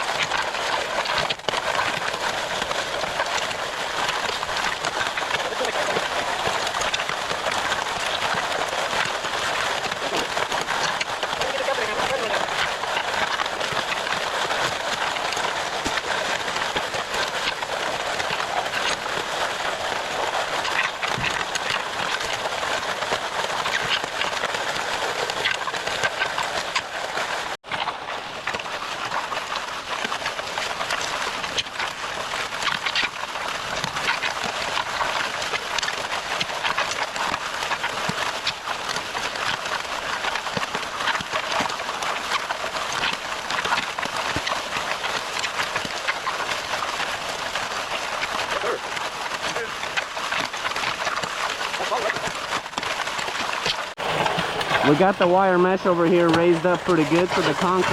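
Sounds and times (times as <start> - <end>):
concrete mixer pump running: 0.0 - 27.6, 33.3 - 57.9
wet concrete rattling: 0.0 - 57.9.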